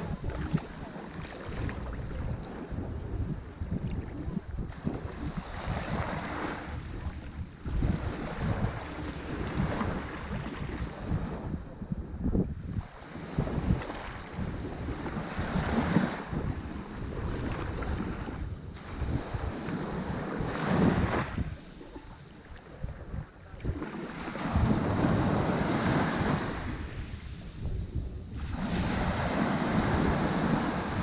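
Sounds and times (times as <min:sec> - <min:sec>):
ocean waves breaking on shore: 0:00.0 - 0:11.7, 0:12.6 - 0:31.0
wind buffeting microphone: 0:00.0 - 0:31.0.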